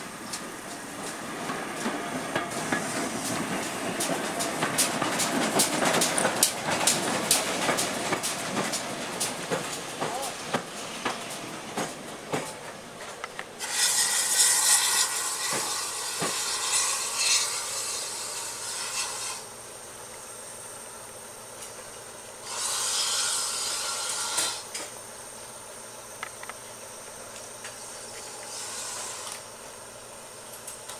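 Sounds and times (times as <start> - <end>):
steam hissing: 0.0 - 30.9.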